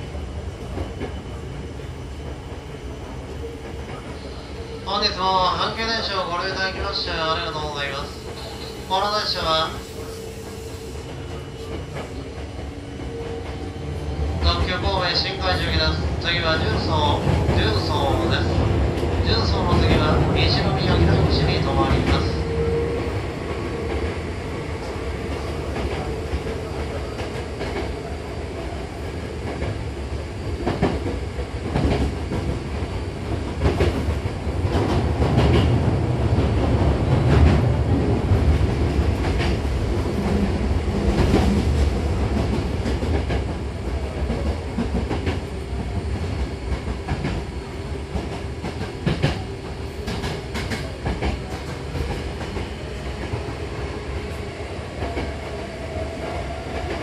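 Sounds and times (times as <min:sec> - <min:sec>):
rumble of wheels on rails: 0:00.0 - 0:57.0.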